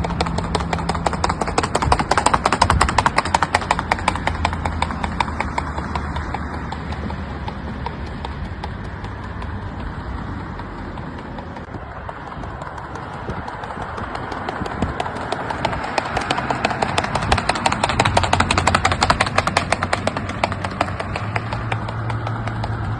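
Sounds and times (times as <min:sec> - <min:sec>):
horse hoofbeats: 0:00.0 - 0:22.9.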